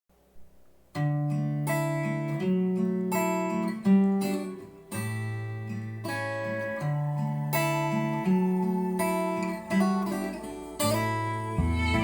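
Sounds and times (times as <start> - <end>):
acoustic guitar chords: 0.2 - 12.0.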